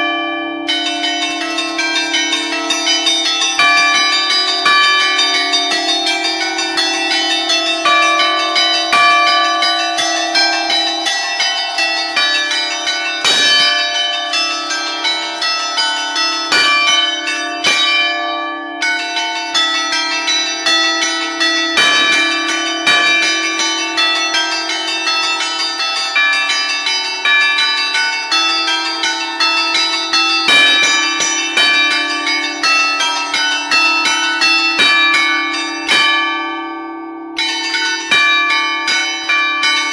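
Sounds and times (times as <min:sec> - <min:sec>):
bells ringing a melody: 0:00.0 - 0:39.9
heavy bell strikes: 0:00.0 - 0:39.9.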